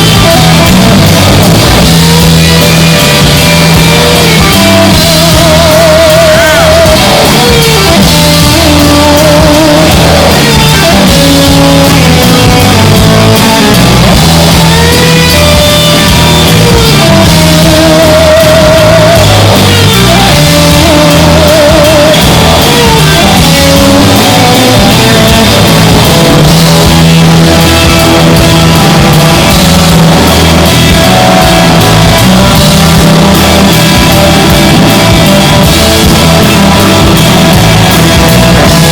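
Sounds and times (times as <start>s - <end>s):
rock band playing loudly: 0.0s - 38.9s
singer holding long notes: 0.0s - 38.9s.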